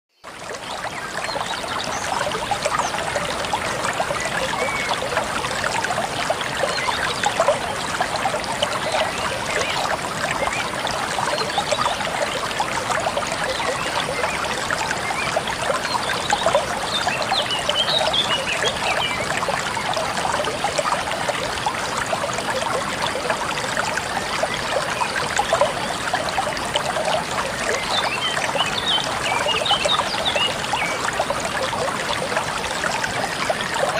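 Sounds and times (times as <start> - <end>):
small waterfall splashing: 0.1 - 33.9.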